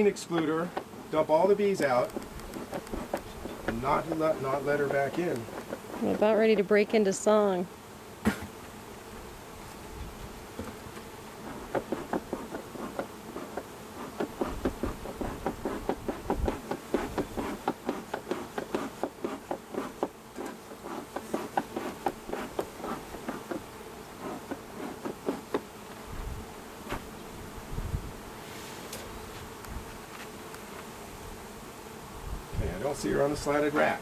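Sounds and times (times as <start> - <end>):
bees buzzing: 0.0 - 34.0.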